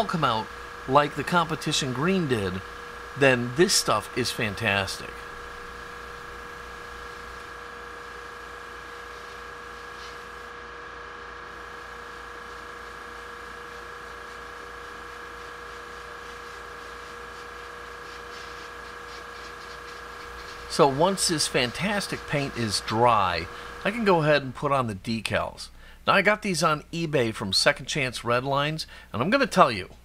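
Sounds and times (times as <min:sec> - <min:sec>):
exhaust fan humming: 0:00.0 - 0:30.0.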